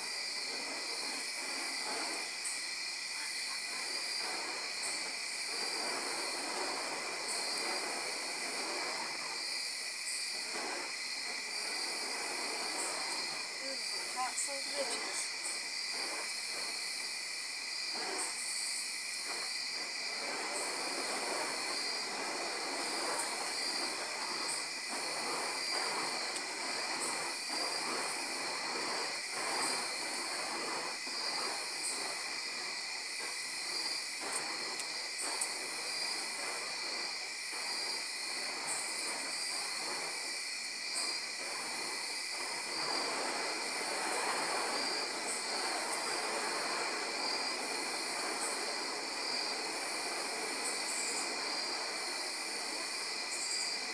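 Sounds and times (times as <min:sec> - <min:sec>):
night insects chorus: 0:00.0 - 0:53.9
whooshing of spinning fire staffs: 0:00.0 - 0:53.9.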